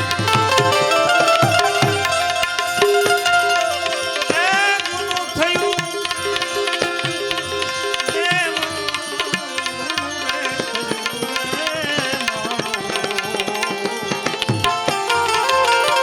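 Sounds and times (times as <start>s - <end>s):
tabla strokes: 0.0s - 16.0s.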